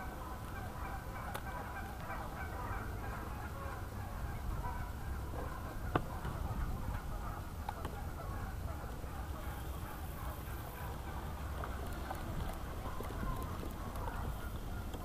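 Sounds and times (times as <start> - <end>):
waterfowl calling: 0.0 - 15.0.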